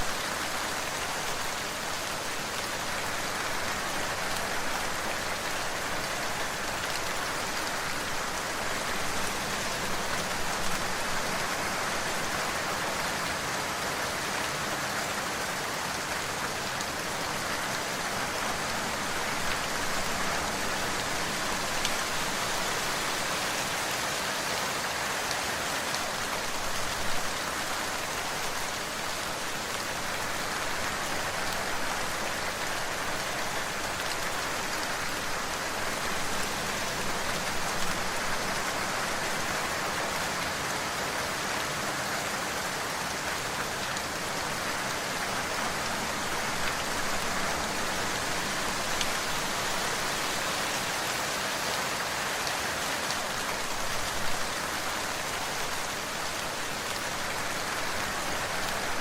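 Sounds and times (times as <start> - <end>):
dense rainfall hiss: 0.0 - 59.0.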